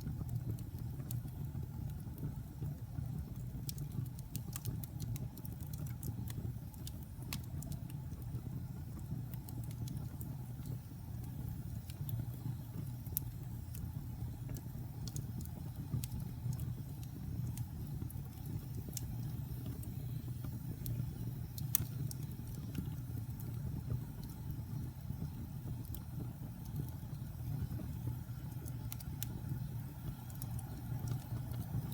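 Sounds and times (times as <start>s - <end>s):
fire crackling and popping: 0.0s - 31.9s.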